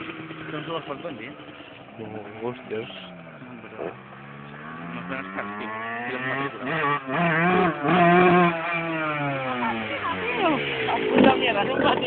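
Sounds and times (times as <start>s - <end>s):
motorcycle engine passing: 0.0s - 12.0s.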